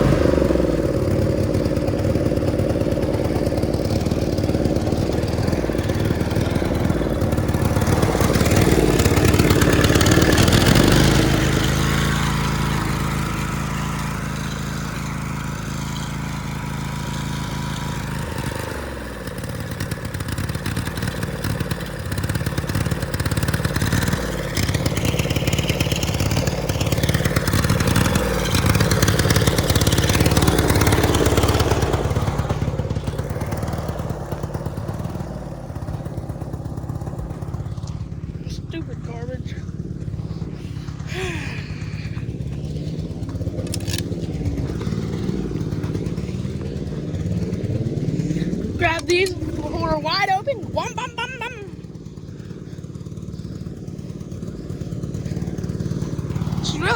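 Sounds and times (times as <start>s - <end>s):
tractor engine running hard: 0.0s - 56.9s.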